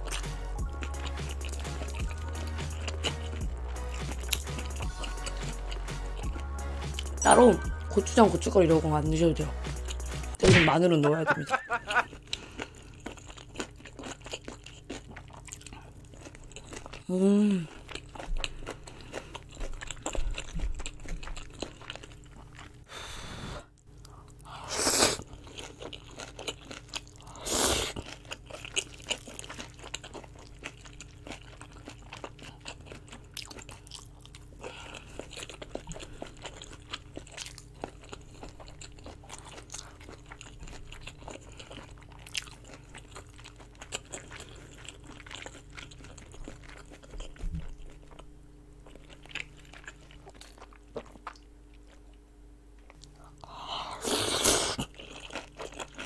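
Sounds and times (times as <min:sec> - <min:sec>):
close chewing and crunching: 0:00.0 - 0:08.8, 0:11.4 - 0:22.9, 0:23.7 - 0:56.0.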